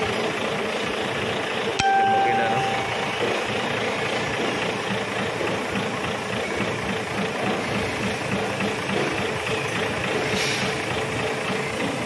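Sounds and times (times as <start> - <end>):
diesel engine idling: 0.0 - 1.8, 3.2 - 12.0.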